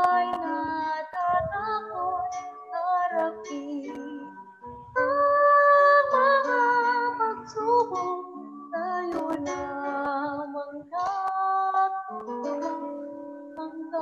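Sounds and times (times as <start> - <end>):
woman singing: 0.0 - 12.9, 13.5 - 14.0
musical accompaniment: 0.0 - 14.0.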